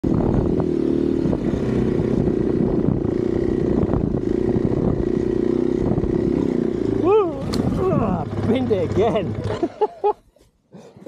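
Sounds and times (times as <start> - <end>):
dirt bike engine running: 0.0 - 9.9.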